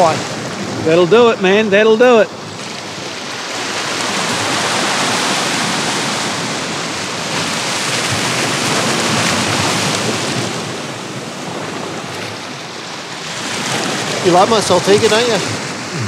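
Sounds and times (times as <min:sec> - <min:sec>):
wind on microphone: 0:02.4 - 0:16.0.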